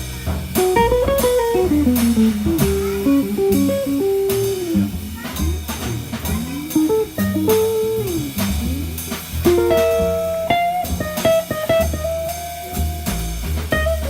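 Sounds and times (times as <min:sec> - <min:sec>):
bass: 0:00.0 - 0:14.0
drums with cymbals: 0:00.0 - 0:14.0
jazz quartet playing: 0:00.0 - 0:14.0
lead line with bent notes: 0:00.3 - 0:14.0.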